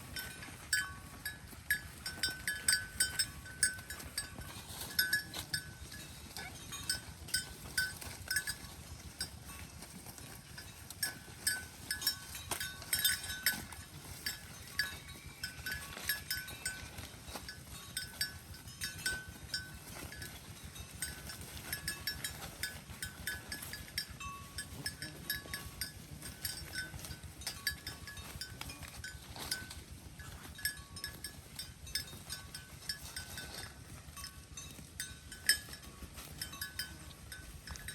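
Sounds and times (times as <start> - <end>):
cattle chewing hay: 0.0 - 37.9.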